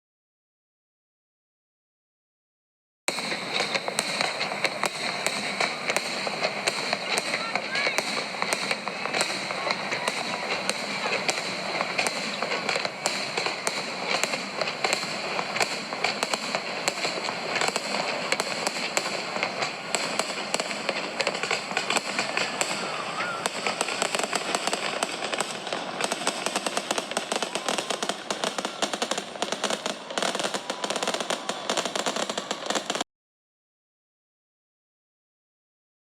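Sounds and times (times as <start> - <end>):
fireworks crackling and popping: 3.1 - 33.1.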